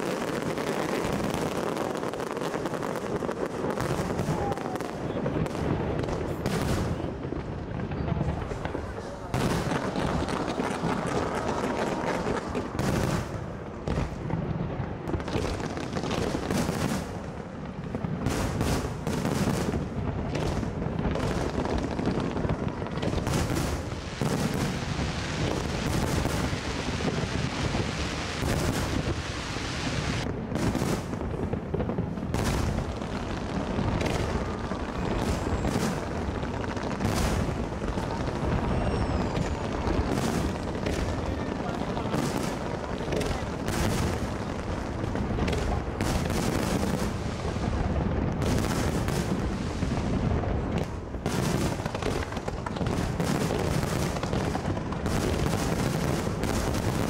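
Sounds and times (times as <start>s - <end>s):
fireworks bangs and booms: 0.0s - 57.0s.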